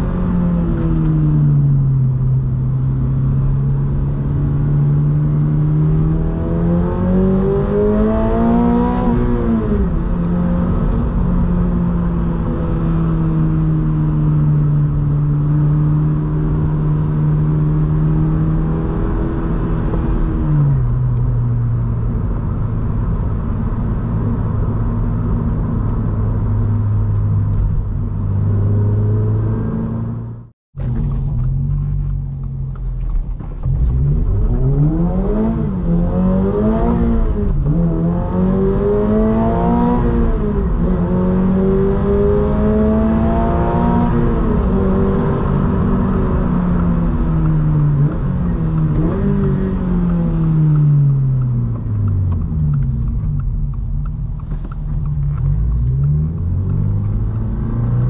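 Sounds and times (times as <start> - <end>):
car engine revving from inside cabin: 0.0 - 30.5, 33.6 - 58.0.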